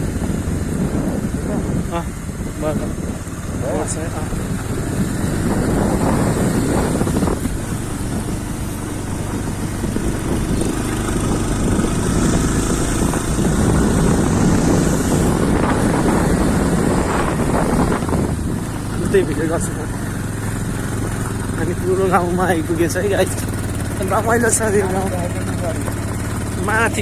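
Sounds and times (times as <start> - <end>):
motorcycle engine running: 0.0 - 27.0
wind rumbling on microphone: 0.0 - 27.0.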